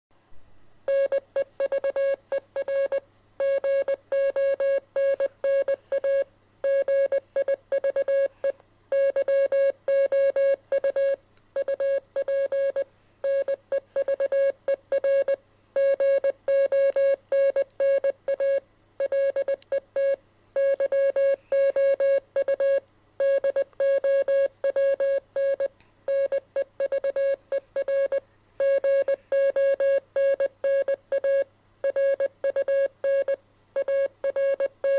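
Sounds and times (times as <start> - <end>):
morse code beeps: 0.9 - 34.9.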